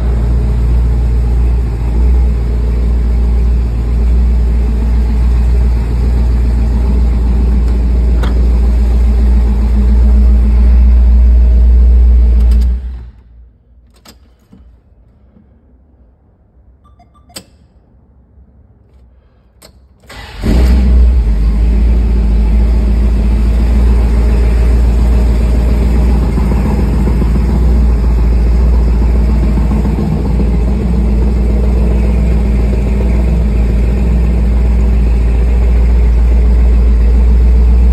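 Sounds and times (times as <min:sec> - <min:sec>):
car engine starting and running: 0:00.0 - 0:14.5, 0:20.0 - 0:37.9.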